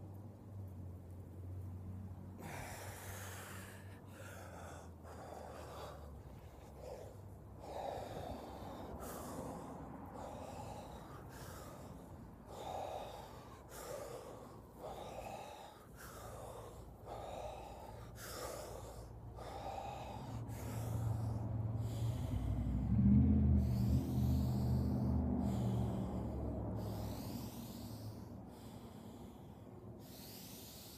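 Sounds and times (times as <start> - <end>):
low hum: 0.0 - 30.1
person breathing deeply: 2.0 - 30.9.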